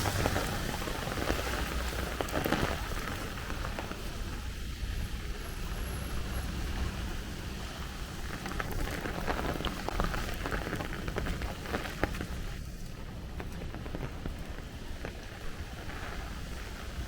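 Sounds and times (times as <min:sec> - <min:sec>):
rain drops pattering: 0:00.0 - 0:17.0
steady low rumble: 0:00.0 - 0:17.0.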